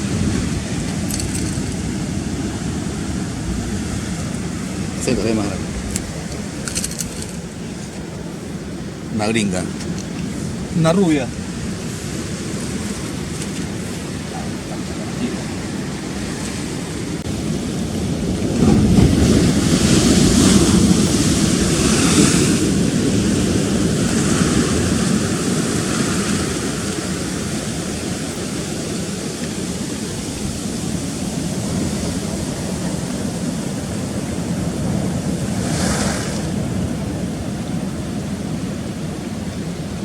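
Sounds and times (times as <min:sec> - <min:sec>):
surf breaking against rocks: 0:00.0 - 0:38.1.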